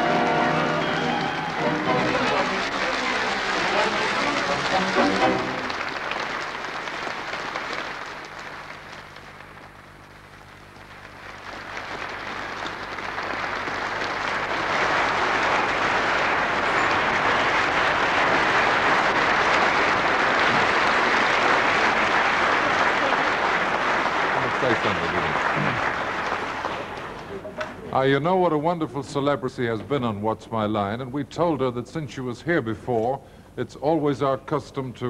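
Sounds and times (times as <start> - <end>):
audience applauding: 0.0 - 28.5.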